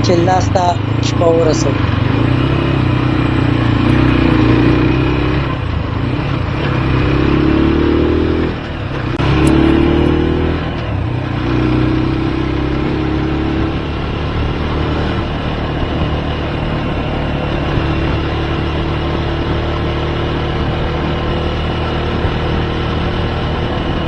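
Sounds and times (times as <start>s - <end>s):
motorcycle engine shifting gears: 0.0s - 24.0s.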